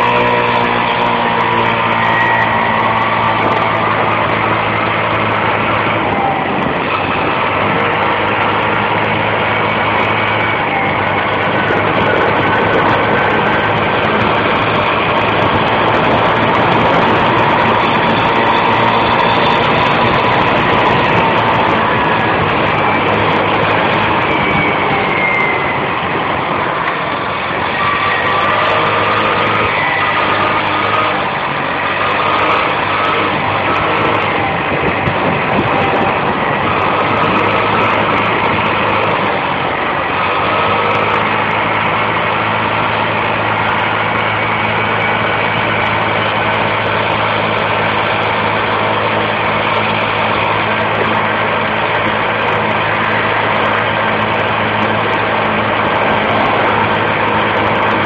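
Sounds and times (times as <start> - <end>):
motor scooter engine running: 0.0 - 58.0.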